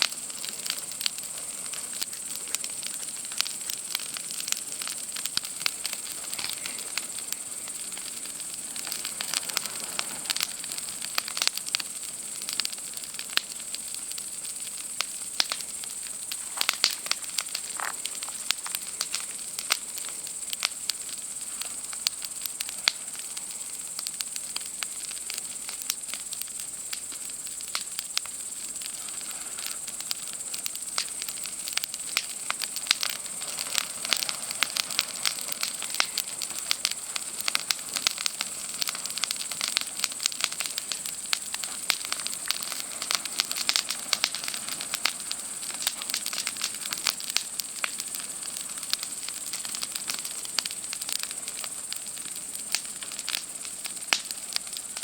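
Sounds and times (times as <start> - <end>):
campfire crackling and popping: 0.0 - 55.0
night insects droning: 0.0 - 55.0.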